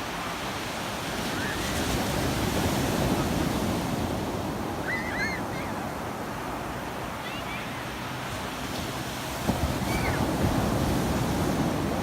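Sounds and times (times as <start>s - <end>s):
sea waves on beach: 0.0s - 12.0s.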